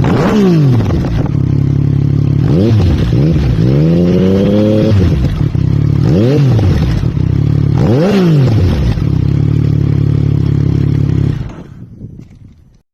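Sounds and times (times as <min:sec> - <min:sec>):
motorcycle engine idling and revving: 0:00.0 - 0:12.8.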